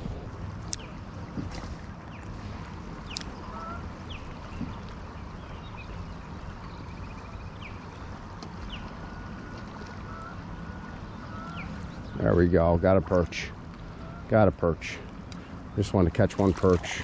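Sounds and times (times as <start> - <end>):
river water washing: 0.0 - 17.0
wind: 0.0 - 17.0.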